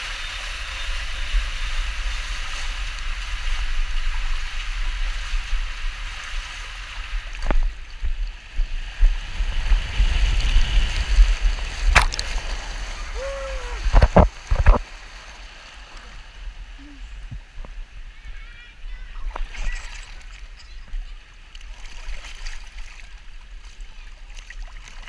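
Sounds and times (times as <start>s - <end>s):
water rushing down waterslide: 0.0s - 25.0s
water splashing: 0.0s - 25.0s.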